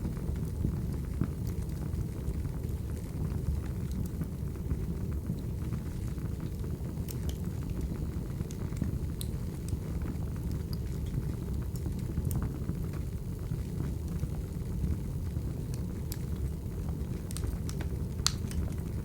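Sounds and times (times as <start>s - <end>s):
fire crackles and pops: 0.0s - 19.0s
fire rumbling: 0.0s - 19.0s.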